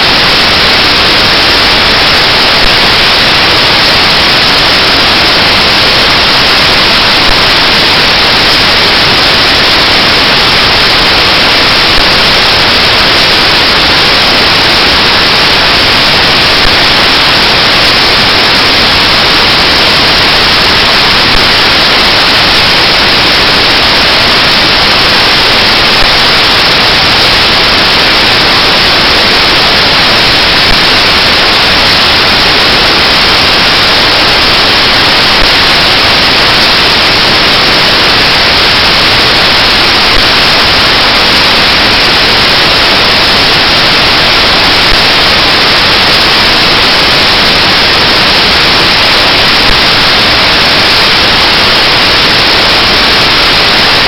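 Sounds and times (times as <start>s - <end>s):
static hiss: 0.0s - 54.0s.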